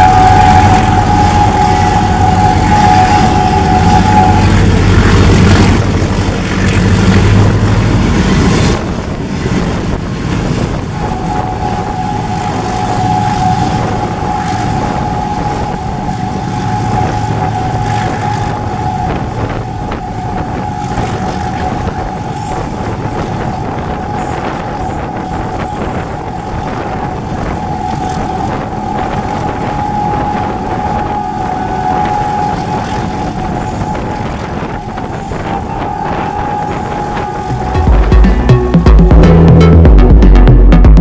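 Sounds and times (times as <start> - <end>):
steady high-pitched tone: 0.0 - 6.0, 10.7 - 41.0
train engine rumble: 0.0 - 41.0.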